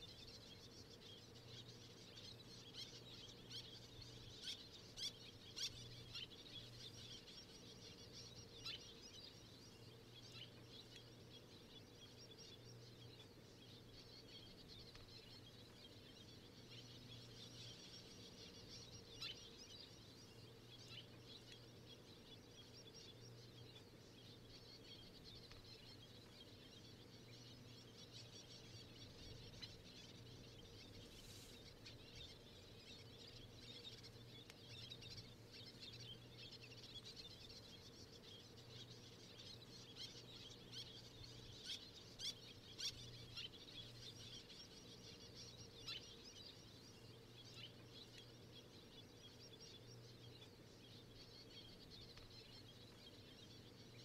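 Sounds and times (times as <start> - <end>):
distant birds chirping: 0.0 - 54.0
low steady hum: 0.0 - 54.0.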